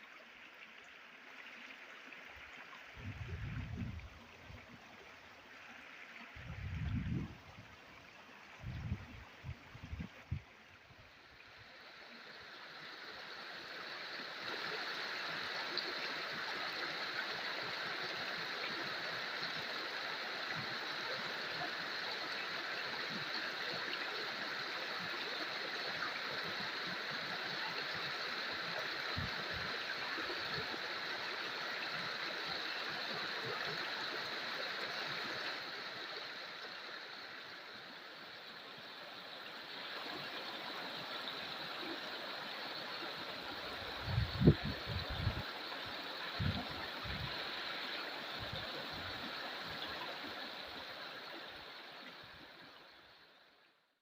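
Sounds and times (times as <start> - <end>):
stream water rushing: 0.0 - 53.4.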